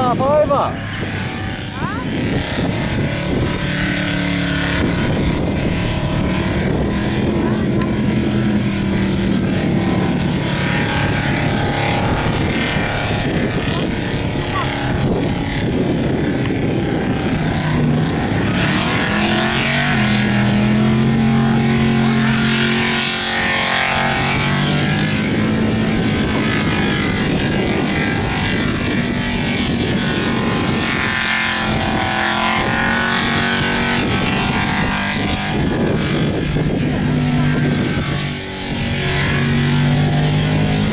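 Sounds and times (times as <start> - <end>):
car engine revving high: 0.0 - 40.9.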